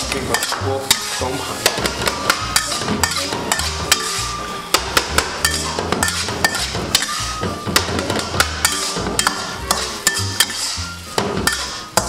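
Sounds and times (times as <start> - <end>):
background music with bass: 0.0 - 12.0
metal spatula scraping wok: 0.0 - 12.0.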